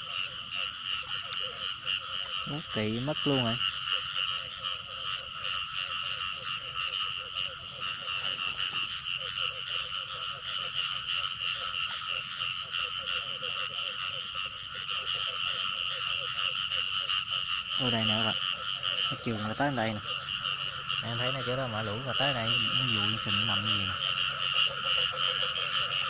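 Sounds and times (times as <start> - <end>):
frogs trilling: 0.0 - 26.0
pulsed frog croaks: 0.0 - 26.0.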